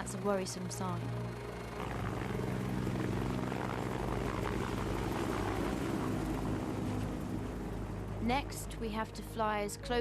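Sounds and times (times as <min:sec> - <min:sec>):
propeller aircraft engine drone: 0:00.0 - 0:10.0.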